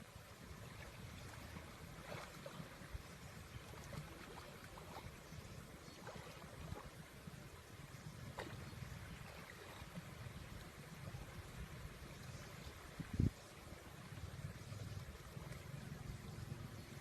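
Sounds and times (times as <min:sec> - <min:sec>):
faint moving water: 0:00.0 - 0:17.0
small splashes and trickles: 0:00.0 - 0:17.0.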